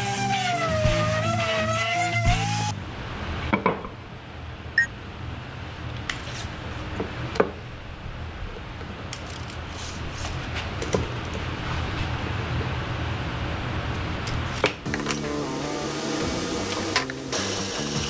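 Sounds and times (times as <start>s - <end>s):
low shop hum: 0.0s - 18.0s.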